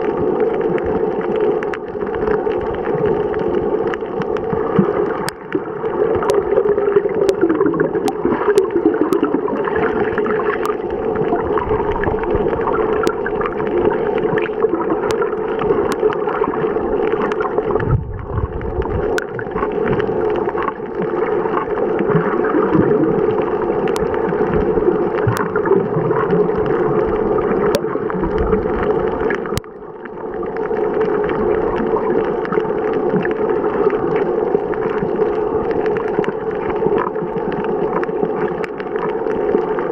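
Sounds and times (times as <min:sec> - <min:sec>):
muffled rushing water underwater: 0:00.0 - 0:39.9.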